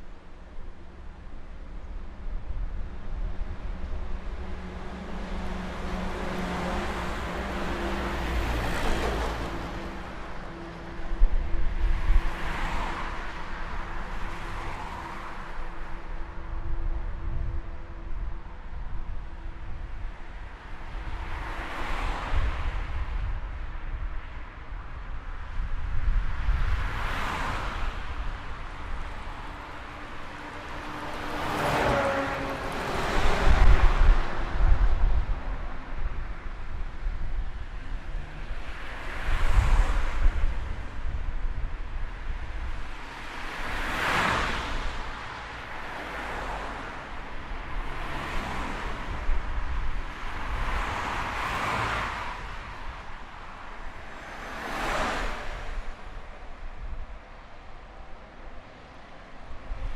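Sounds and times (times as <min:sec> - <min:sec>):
cars passing by: 0:00.0 - 0:59.9
low traffic rumble: 0:00.0 - 0:59.9.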